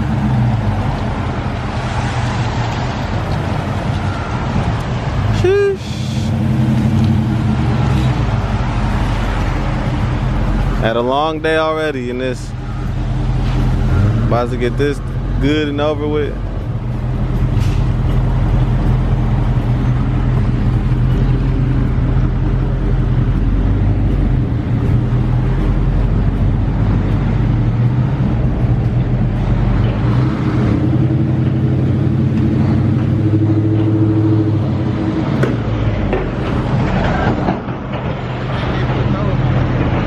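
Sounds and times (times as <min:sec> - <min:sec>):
car engine droning: 0:00.0 - 0:40.0
road noise: 0:00.0 - 0:40.0.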